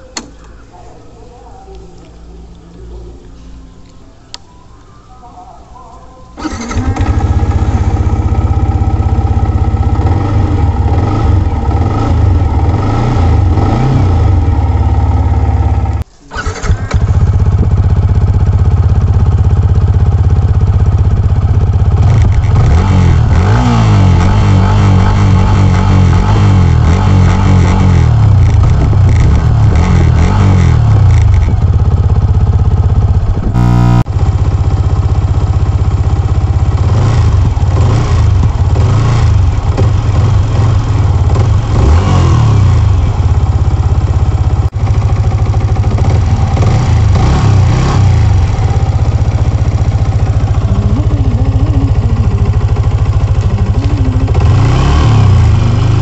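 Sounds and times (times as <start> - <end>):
motorcycle engine revving: 6.4 - 56.0.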